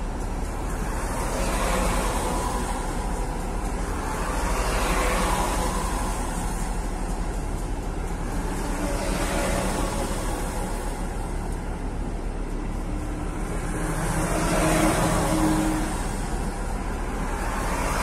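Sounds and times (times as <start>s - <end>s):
car road noise on wet road: 0.0s - 18.0s
truck engine hum: 0.0s - 18.0s.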